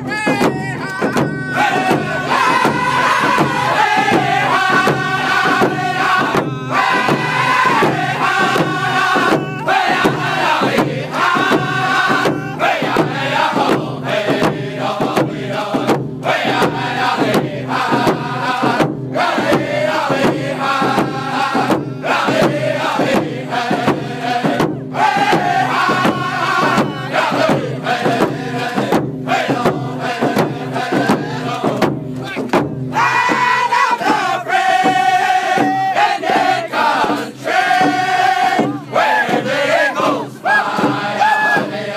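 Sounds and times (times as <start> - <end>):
hand drums beating: 0.0 - 41.9
men singing together: 0.0 - 41.9.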